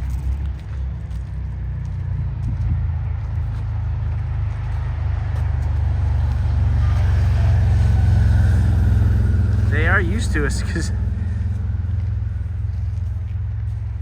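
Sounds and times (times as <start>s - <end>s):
vehicle engine approaching: 0.0s - 14.0s.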